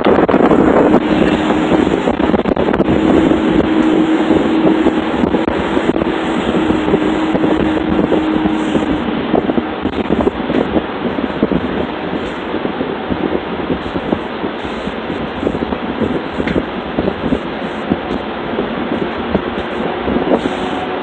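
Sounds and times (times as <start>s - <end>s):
steady hum: 0.0s - 21.0s
wind buffeting microphone: 0.0s - 21.0s.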